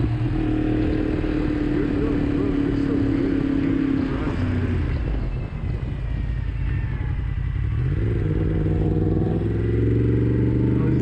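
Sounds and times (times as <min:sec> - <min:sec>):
wind on microphone: 0:00.0 - 0:09.7
motorcycle engine running: 0:00.0 - 0:11.0.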